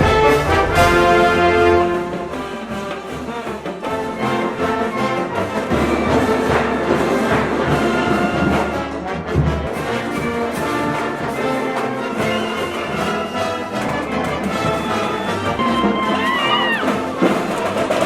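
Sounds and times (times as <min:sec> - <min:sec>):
brass band playing chords: 0:00.0 - 0:18.0.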